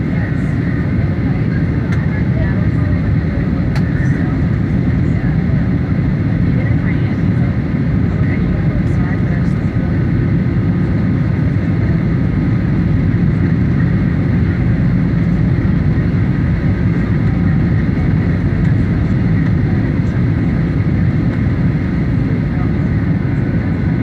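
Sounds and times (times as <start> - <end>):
airplane engines low rumble: 0.0 - 24.0.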